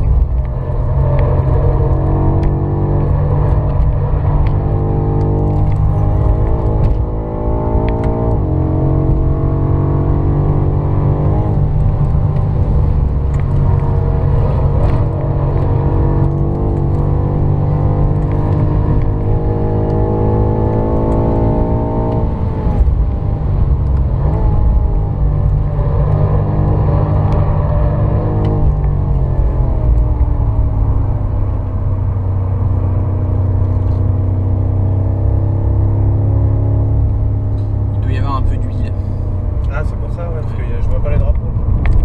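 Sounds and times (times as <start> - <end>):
car engine accelerating: 0.0 - 42.0
road and tyre rumble: 0.0 - 42.0.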